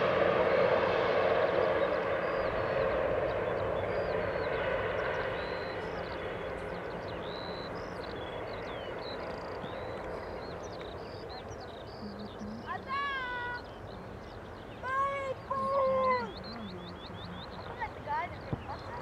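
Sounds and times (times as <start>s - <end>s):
aircraft engine noise: 0.0s - 19.0s
small birds chirping: 1.3s - 19.0s.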